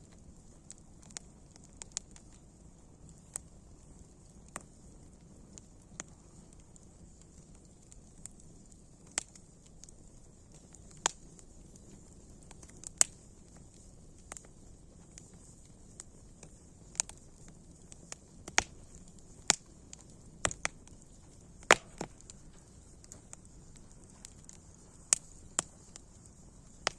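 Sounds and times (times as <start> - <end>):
campfire crackling and popping: 0.0 - 26.9
faint steady hiss: 0.0 - 26.9.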